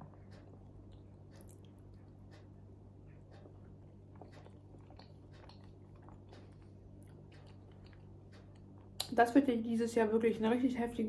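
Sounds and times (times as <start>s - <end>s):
chewing with mouth clicks: 0.0s - 9.2s
steady low hum: 0.0s - 11.0s.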